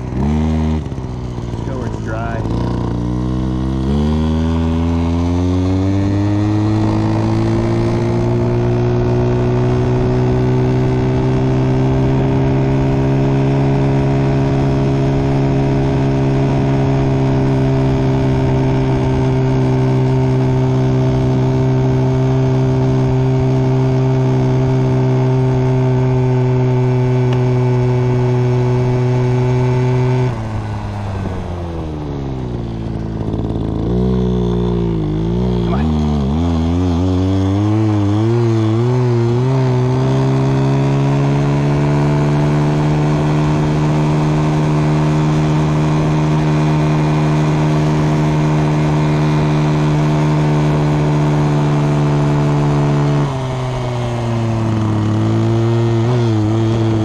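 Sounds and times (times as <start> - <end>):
small two-stroke engine revving: 0.0 - 57.0.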